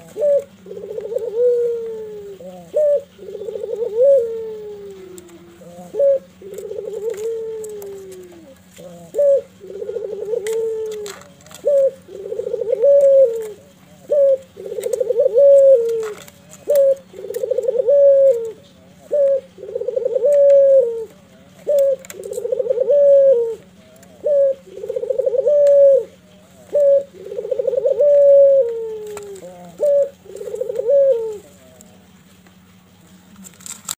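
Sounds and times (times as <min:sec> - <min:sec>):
dove cooing: 0:00.0 - 0:33.5.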